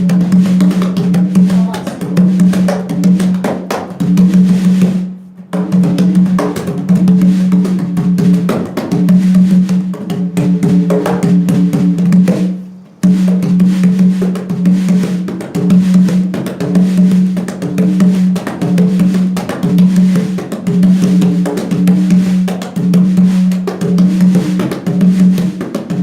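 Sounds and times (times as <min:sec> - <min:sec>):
conga drum struck by hand: 0:00.0 - 0:26.0.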